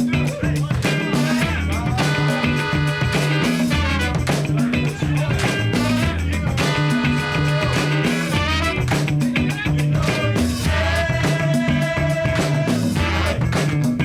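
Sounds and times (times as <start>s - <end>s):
upbeat background music: 0.0s - 14.0s.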